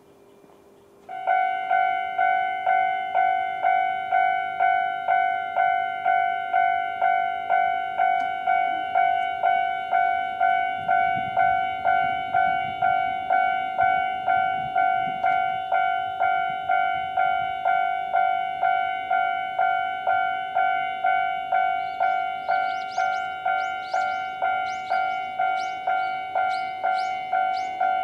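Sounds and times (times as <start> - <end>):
level crossing warning bell: 1.1 - 28.0.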